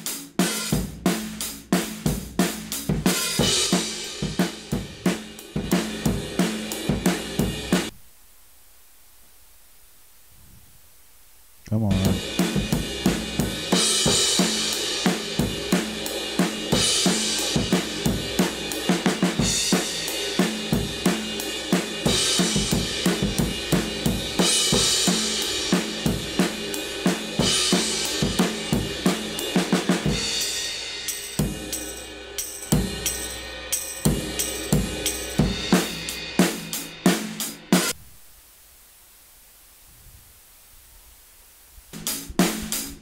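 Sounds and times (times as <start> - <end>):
drum kit groove: 0.0 - 8.0, 11.6 - 38.1, 41.8 - 43.0.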